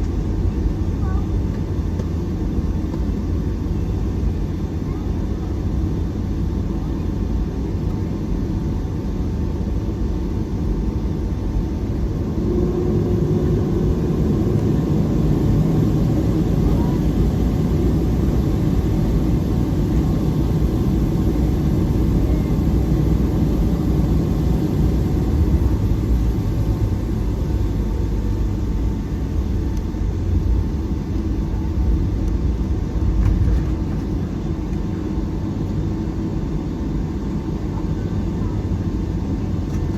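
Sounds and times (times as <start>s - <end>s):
airliner cabin rumble: 0.0s - 39.9s
faint steady whine: 0.0s - 39.9s.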